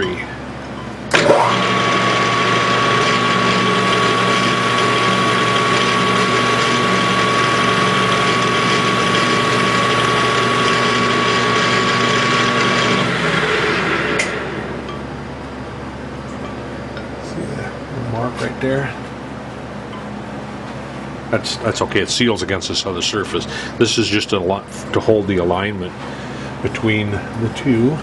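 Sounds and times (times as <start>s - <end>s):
lathe gear whine and motor hum: 0.0s - 28.0s.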